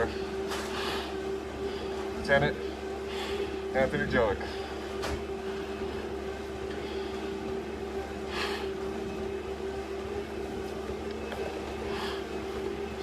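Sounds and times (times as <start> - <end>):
motor hum with held tones: 0.0 - 13.0.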